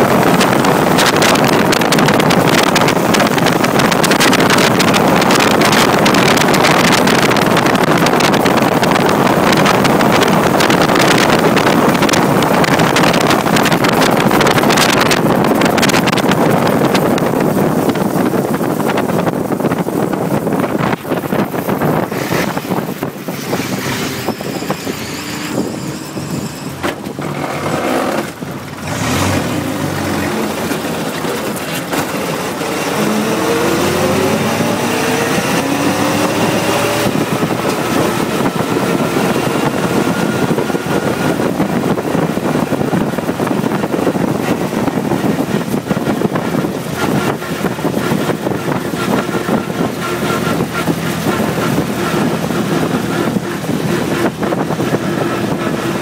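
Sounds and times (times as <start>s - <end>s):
racing car engine running hard: 0.0s - 56.0s.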